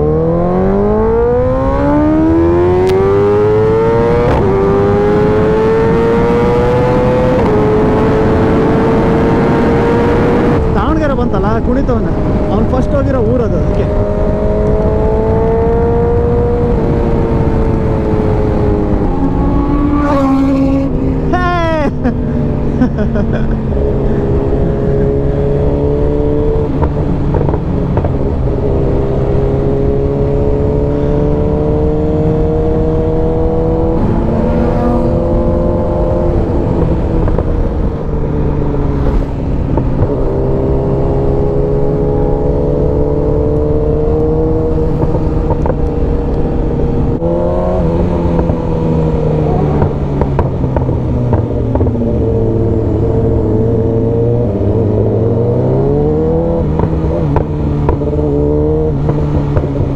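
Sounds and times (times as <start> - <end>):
motorcycle engine: 0.0 - 59.9
wind rush on microphone: 1.4 - 59.9.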